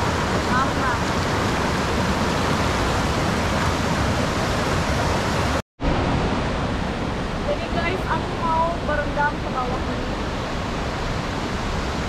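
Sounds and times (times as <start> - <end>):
loud rush of water: 0.0 - 12.0.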